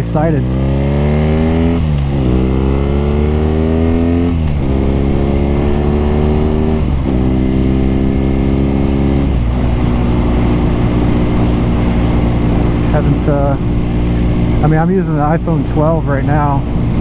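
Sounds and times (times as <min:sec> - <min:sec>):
motorcycle accelerating through gears: 0:00.0 - 0:17.0.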